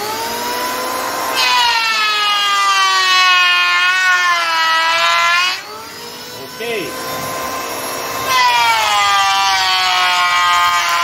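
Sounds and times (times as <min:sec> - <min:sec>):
electric planer cutting wood: 0:00.0 - 0:11.0.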